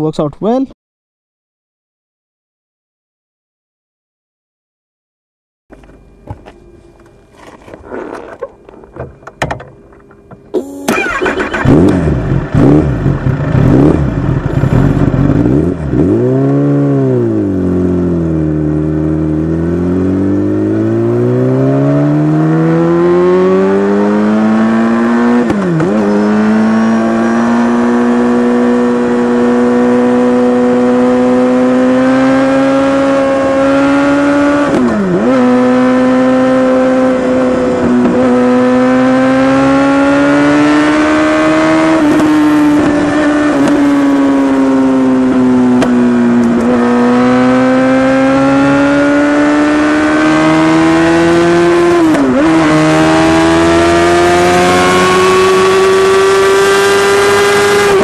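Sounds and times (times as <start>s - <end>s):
motorcycle engine revving: 10.5s - 58.0s.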